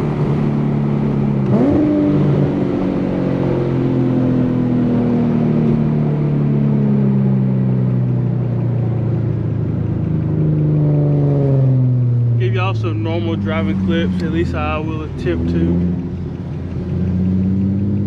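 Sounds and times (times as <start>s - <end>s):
car engine driving: 0.0s - 18.0s.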